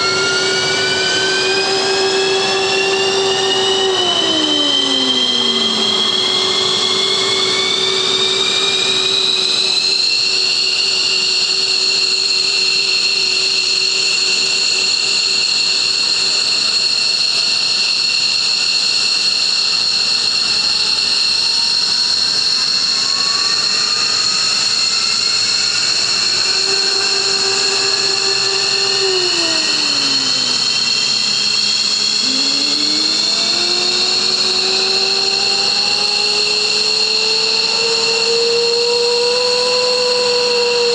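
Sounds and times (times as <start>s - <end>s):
jet engine turbine whine: 0.0s - 40.9s.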